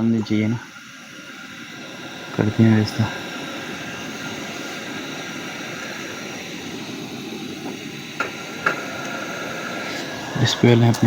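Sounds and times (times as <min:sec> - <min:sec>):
gas stove burner roaring: 0:00.0 - 0:11.0.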